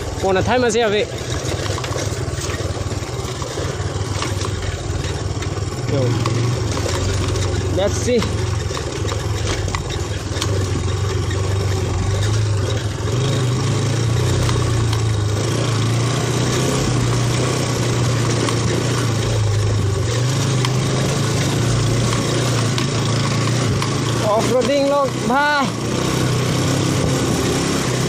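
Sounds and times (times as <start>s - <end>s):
road noise: 0.0s - 28.0s
small motorbike engine running: 0.0s - 28.0s.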